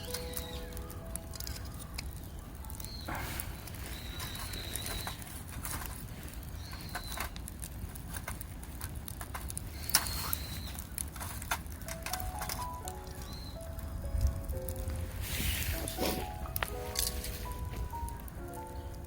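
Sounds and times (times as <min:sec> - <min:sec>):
low wind rumble: 0:00.0 - 0:19.0
sharp pops from fire: 0:00.0 - 0:19.0
wood fire crackling: 0:00.0 - 0:19.0.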